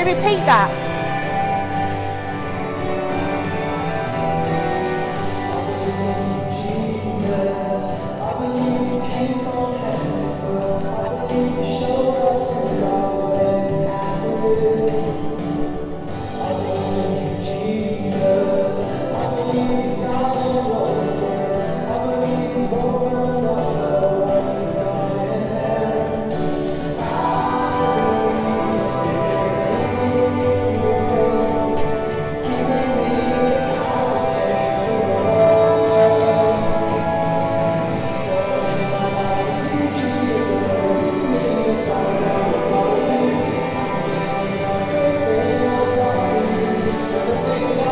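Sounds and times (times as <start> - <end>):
worship song singing: 0.0 - 47.9.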